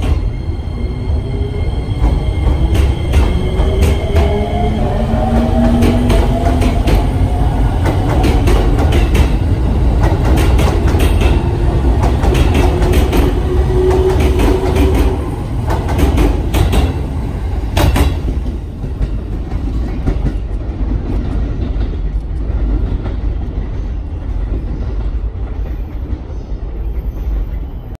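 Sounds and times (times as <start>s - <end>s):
train heavy rumble: 0.0s - 27.9s.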